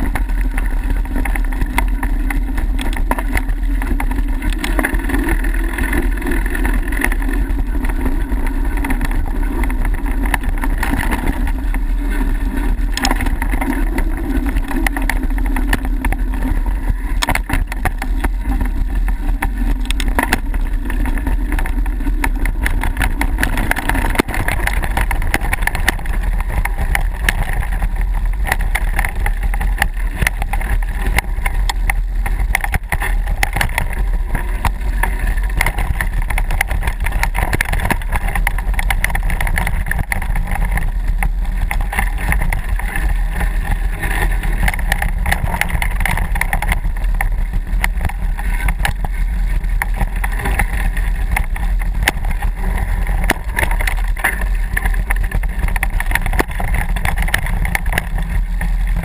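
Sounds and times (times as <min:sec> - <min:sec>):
bike rattling and knocking: 0:00.0 - 0:59.0
wind rumble on microphone: 0:00.0 - 0:59.0.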